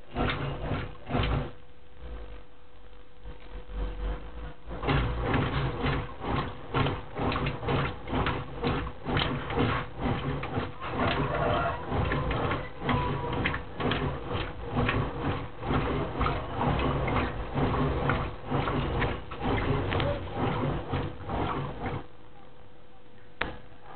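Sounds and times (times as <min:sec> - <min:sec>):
water swishing in washing machine: 0:00.0 - 0:01.6, 0:04.0 - 0:22.2
washing machine motor hum: 0:00.0 - 0:23.9.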